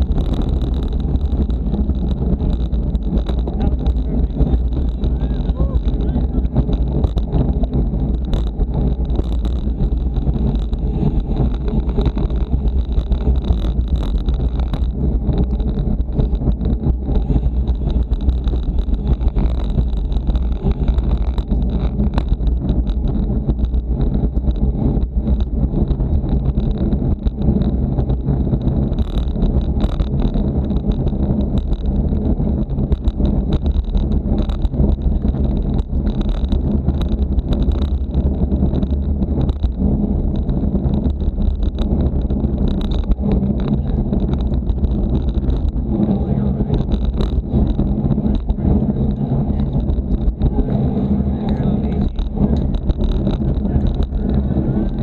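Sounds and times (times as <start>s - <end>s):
bicycle clicks and knocks: 0.0s - 55.0s
road rumble: 0.0s - 55.0s
wind rush on microphone: 0.0s - 55.0s.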